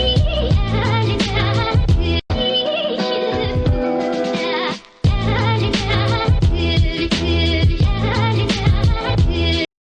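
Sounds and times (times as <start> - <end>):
upbeat background music: 0.0 - 9.7.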